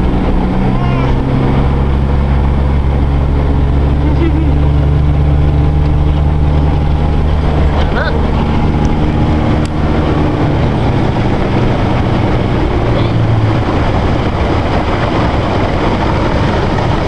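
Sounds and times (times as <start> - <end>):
outboard motor drone: 0.0 - 17.0
rush of wind and water: 0.0 - 17.0.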